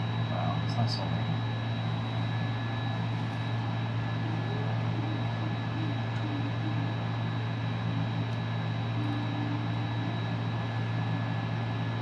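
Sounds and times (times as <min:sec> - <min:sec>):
faint high whine: 0:00.0 - 0:12.0
fan whirring: 0:00.0 - 0:12.0
low electrical hum: 0:00.0 - 0:12.0.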